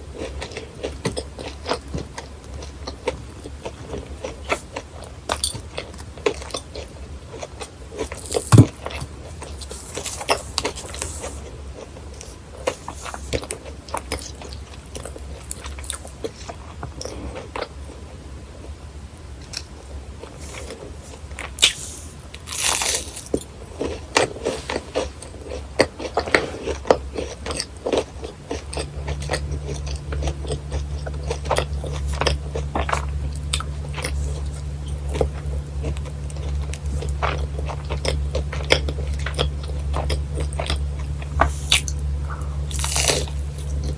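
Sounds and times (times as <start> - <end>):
crunchy bites and chewing: 0.0 - 18.0, 19.4 - 43.9
low steady hum: 0.0 - 43.9.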